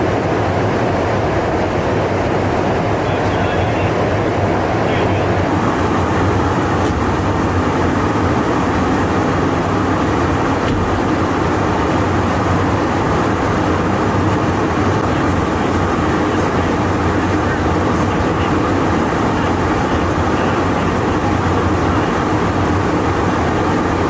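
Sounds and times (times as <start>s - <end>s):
jet engines droning: 0.0s - 24.0s
rushing airflow: 0.0s - 24.0s.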